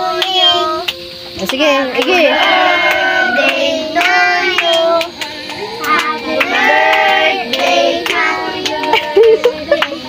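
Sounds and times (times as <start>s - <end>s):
voices singing a birthday song: 0.0s - 10.0s
hand claps: 0.1s - 2.2s, 2.8s - 10.0s.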